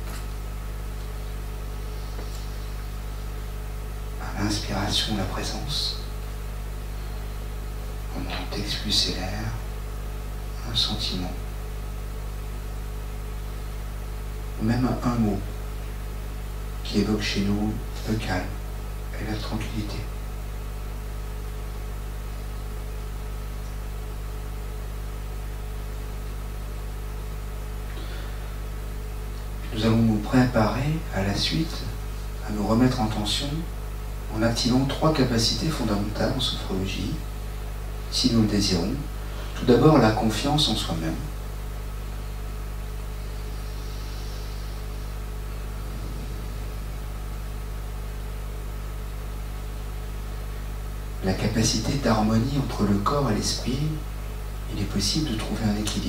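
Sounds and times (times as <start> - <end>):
even hiss: 0.0 - 56.0
low hum: 0.0 - 56.0.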